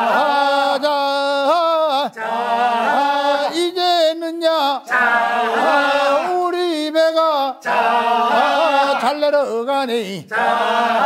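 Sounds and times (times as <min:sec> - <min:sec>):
men chanting a work song: 0:00.0 - 0:11.0.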